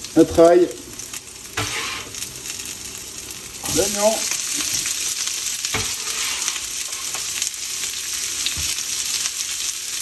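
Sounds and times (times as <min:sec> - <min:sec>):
onion sizzling in frying pan: 0:00.0 - 0:10.0.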